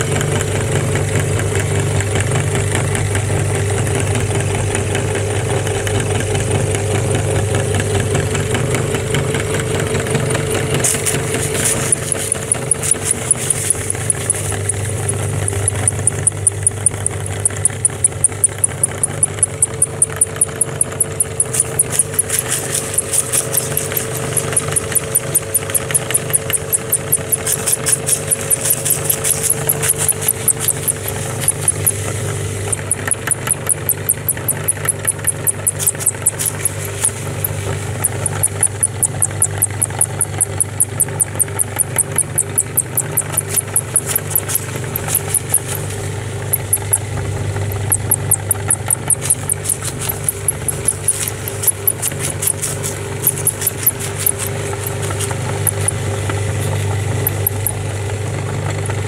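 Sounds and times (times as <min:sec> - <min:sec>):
grinder clicking: 0:00.0 - 0:59.0
meat grinder humming: 0:00.0 - 0:59.0.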